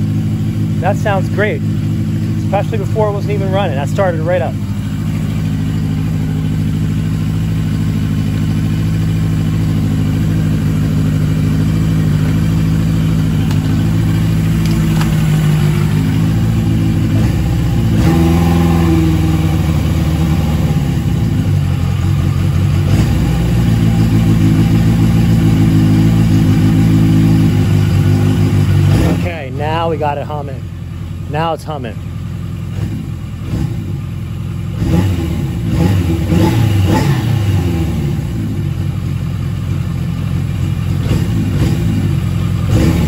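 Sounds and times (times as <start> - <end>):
motorcycle engine running steadily: 0.0 - 43.0.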